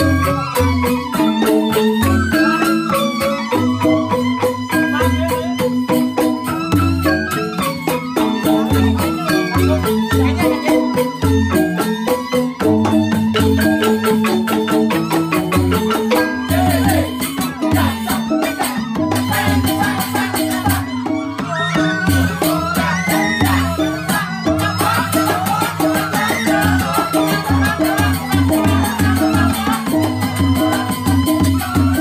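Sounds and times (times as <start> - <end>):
gamelan keys struck with mallets: 0.0 - 32.0.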